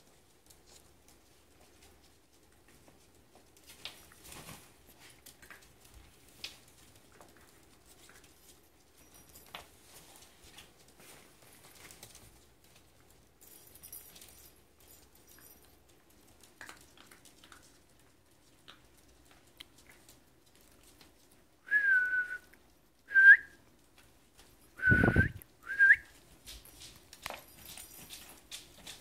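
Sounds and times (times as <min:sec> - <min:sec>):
puppy claws clicking on floor: 0:00.0 - 0:21.7, 0:22.4 - 0:24.8, 0:25.4 - 0:29.0.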